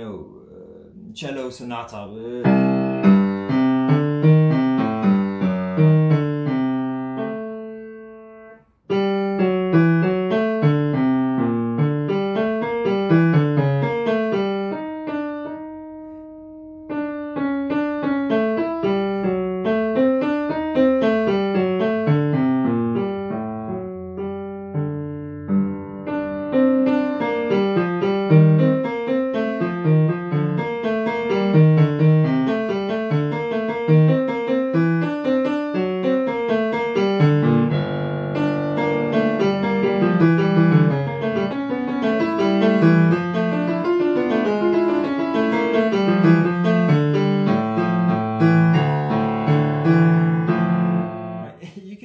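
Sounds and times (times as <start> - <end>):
piano bass line: 0.0 - 52.0.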